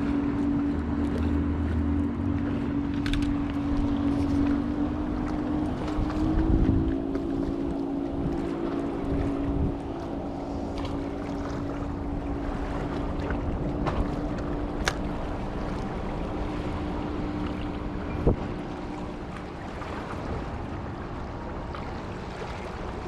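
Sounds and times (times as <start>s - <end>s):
engine drone: 0.0s - 23.0s
water noise: 0.0s - 23.0s
wind: 0.0s - 23.0s.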